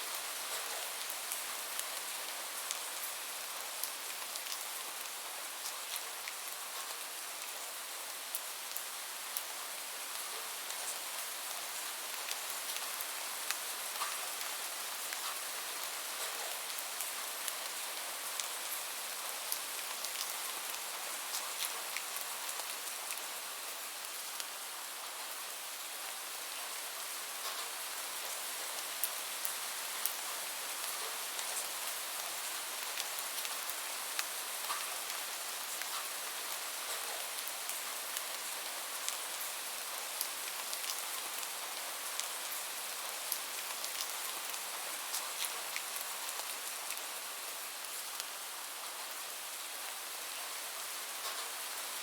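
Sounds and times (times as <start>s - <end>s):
light rain hissing: 0.0s - 52.0s.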